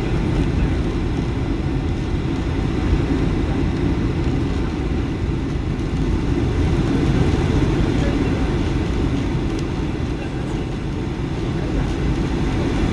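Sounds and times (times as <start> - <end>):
airplane cabin engine rumble: 0.0 - 12.9.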